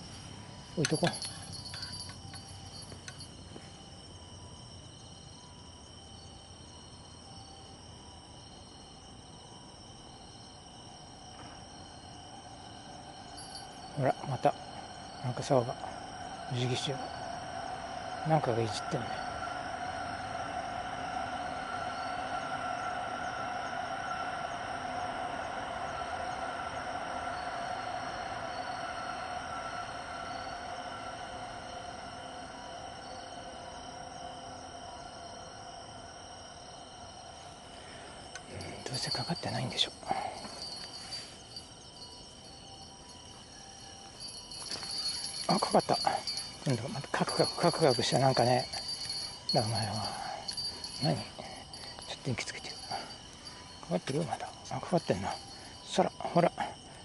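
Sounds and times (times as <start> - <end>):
night insects trilling: 0.0 - 57.0.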